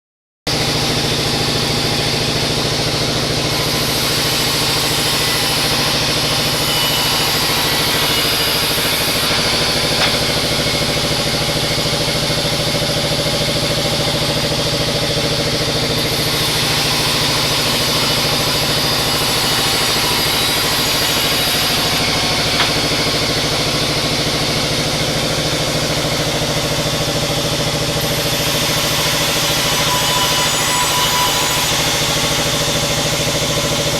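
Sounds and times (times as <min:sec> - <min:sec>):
bandsaw sawmill droning: 0:00.5 - 0:33.9.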